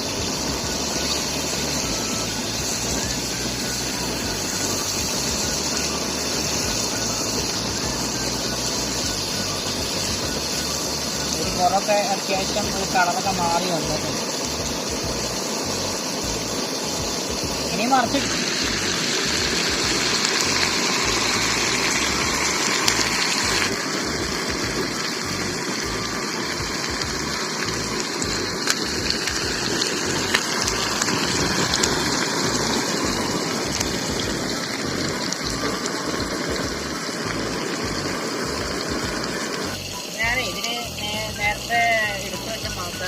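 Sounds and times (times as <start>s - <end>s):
chicken sizzling in a pan: 0.0s - 43.0s.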